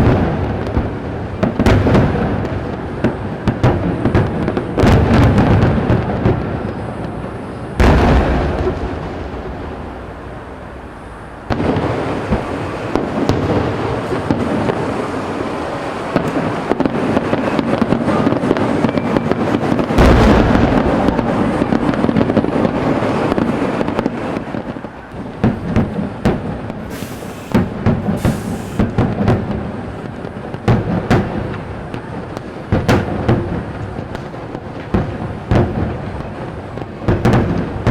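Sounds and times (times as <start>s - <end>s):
fireworks booming: 0.0s - 37.9s
fireworks crackling: 0.0s - 37.9s.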